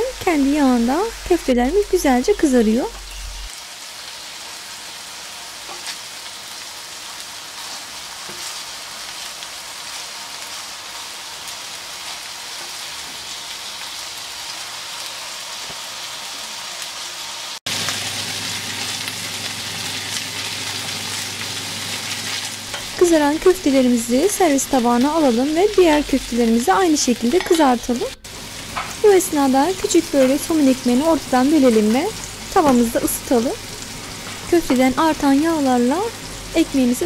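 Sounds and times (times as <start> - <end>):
meat patties sizzling on a griddle: 3.3 - 37.0.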